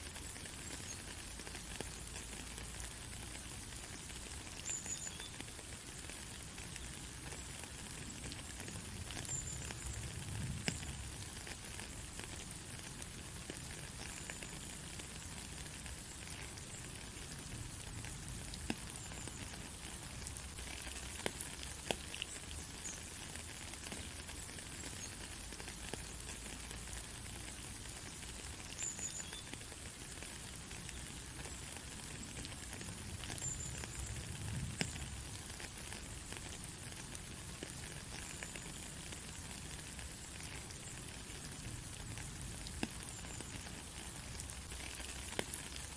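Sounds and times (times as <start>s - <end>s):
rain drop ticks: 0.0s - 45.9s
rain hissing on road: 0.0s - 45.9s.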